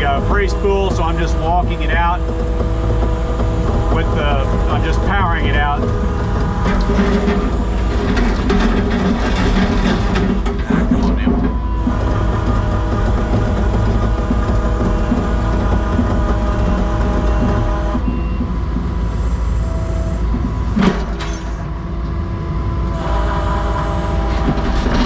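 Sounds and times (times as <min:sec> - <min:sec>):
skid steer engine under load: 0:00.0 - 0:21.8, 0:22.8 - 0:25.0
high whine: 0:00.0 - 0:25.0.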